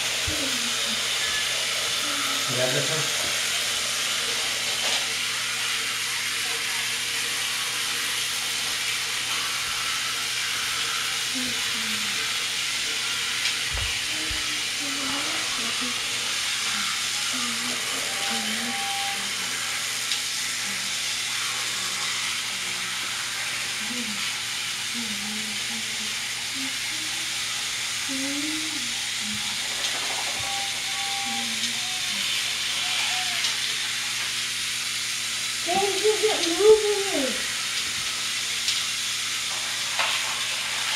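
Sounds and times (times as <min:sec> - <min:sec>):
steady hiss: 0:07.3 - 0:40.9.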